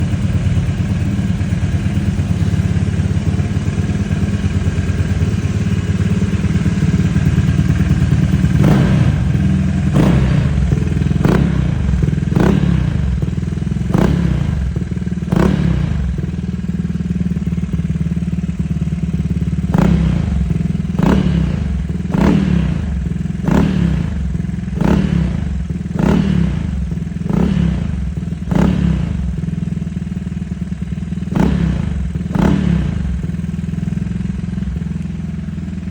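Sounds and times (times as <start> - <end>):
scooter engine idling and revving: 0.0 - 35.9.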